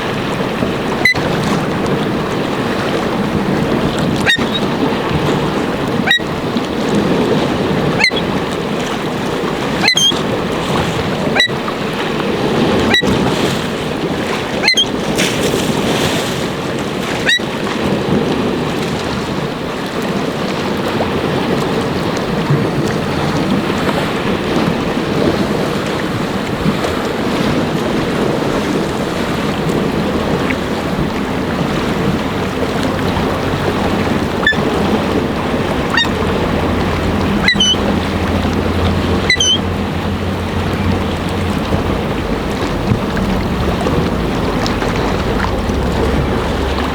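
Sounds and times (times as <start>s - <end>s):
waves washing in: 0.0s - 46.9s
wind buffeting microphone: 0.0s - 46.9s.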